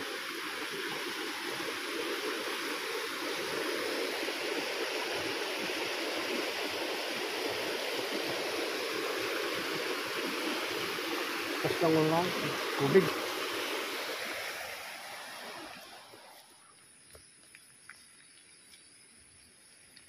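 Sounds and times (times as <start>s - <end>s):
floodwater rushing down a creek: 0.0s - 20.0s.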